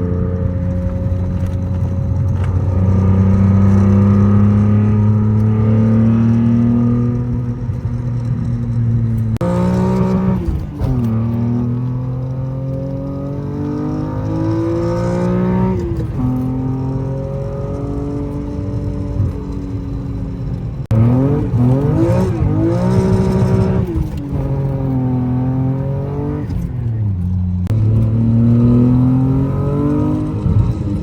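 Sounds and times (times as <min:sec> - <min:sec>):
car engine revving while driving: 0:00.0 - 0:31.0.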